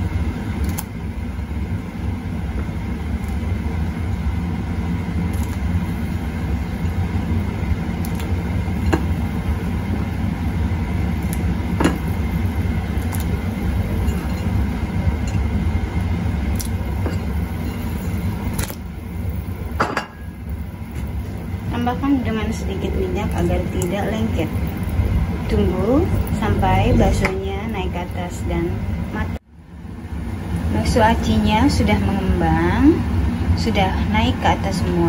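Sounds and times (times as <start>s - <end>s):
water boiling with bubbling rumble: 0.0s - 35.0s.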